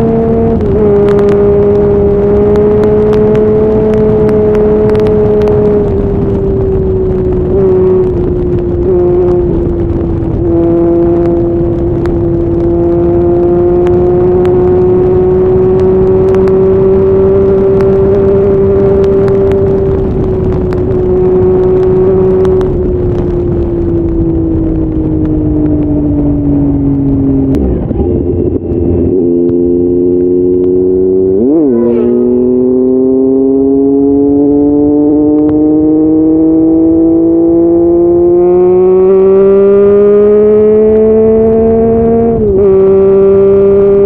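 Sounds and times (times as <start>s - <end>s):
heavy wind rush: 0.0s - 44.0s
motorcycle engine at speed: 0.0s - 44.0s.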